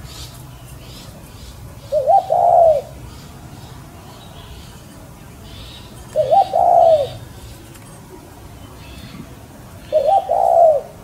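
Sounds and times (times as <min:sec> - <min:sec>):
higher chirping of birds: 0:00.0 - 0:07.7, 0:08.6 - 0:11.0.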